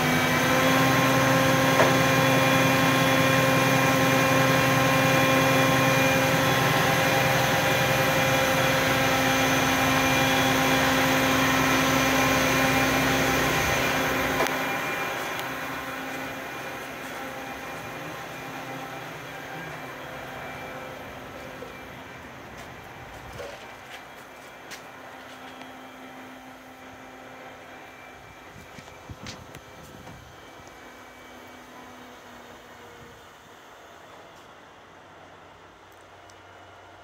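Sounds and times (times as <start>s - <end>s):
crane engine whining: 0.0s - 37.0s.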